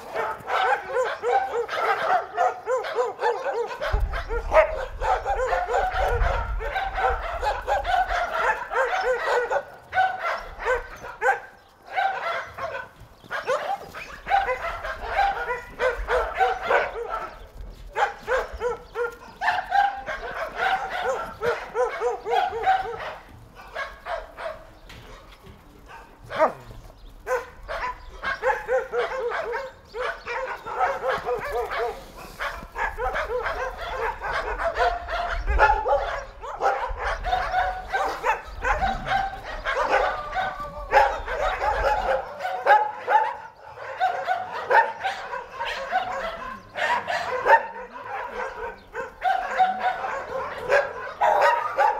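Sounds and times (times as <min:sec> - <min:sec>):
dogs barking: 0:00.0 - 0:51.9.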